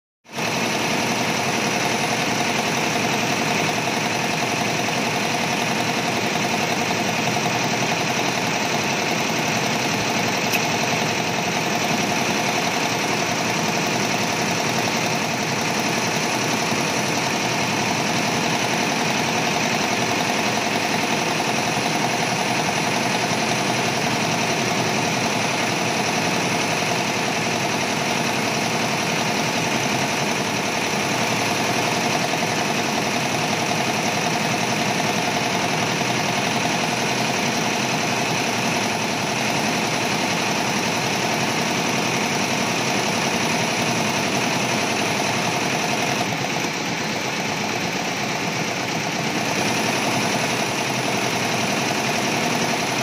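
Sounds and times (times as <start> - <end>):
embroidery machine stitching: 0.3 - 53.0.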